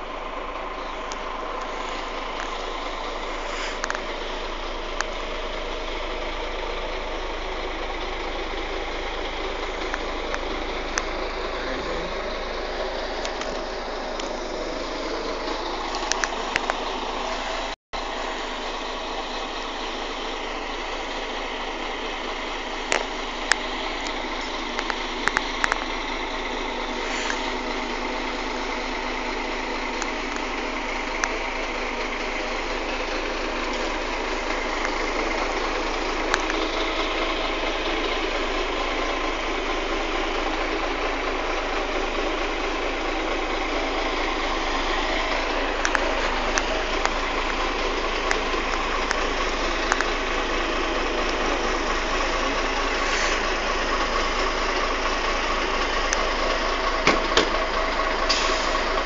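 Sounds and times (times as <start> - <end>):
bus diesel engine idling: 0.0 - 59.0.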